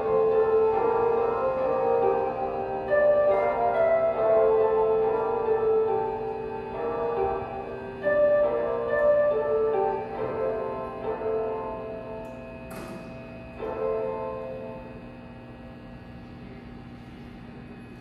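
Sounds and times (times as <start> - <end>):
departure melody chiming over speakers: 0.0 - 15.8
steady low hum: 0.0 - 18.0.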